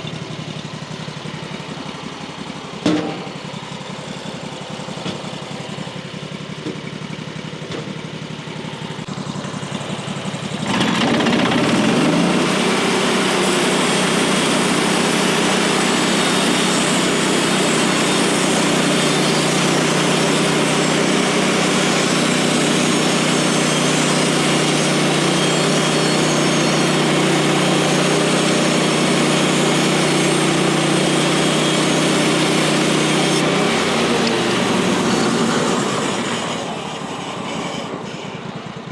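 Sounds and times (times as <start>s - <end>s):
sawmill gas engine running: 0.0s - 38.9s.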